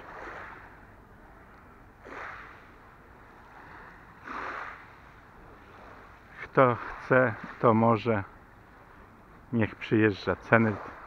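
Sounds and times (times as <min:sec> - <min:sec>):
waves lapping on pebble beach: 0:00.0 - 0:11.0.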